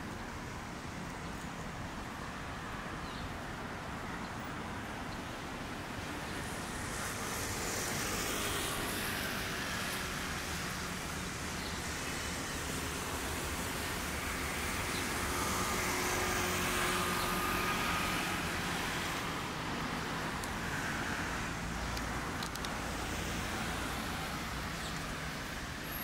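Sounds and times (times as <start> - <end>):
city road traffic hum: 0.0 - 26.0.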